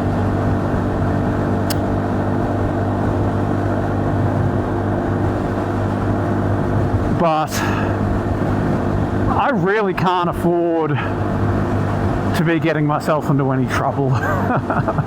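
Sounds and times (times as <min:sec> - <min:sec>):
motorcycle engine cruising: 0:00.0 - 0:12.4.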